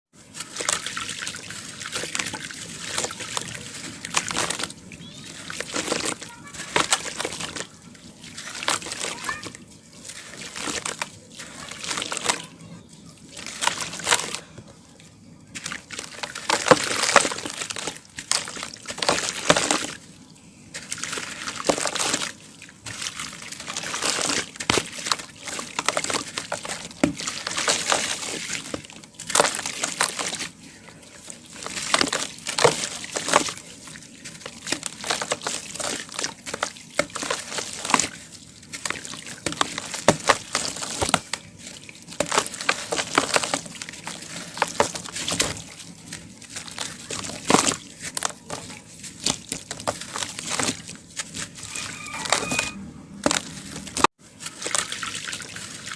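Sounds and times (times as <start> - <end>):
cement crackling into water: 0.2 - 14.8, 15.5 - 55.9.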